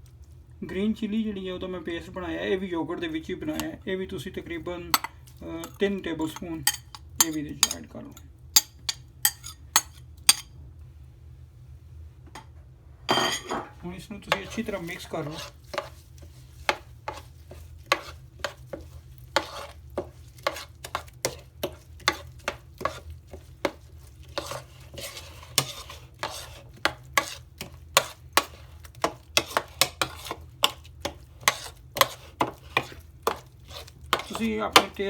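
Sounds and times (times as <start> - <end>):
spoon stirring paste in bowl: 1.8 - 10.5, 14.2 - 35.0.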